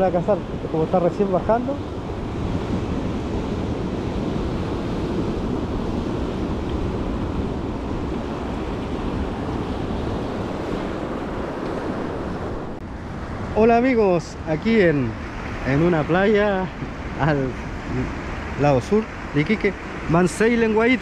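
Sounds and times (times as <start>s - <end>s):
surf washing onto beach: 0.0s - 21.0s
wind on microphone: 0.0s - 21.0s.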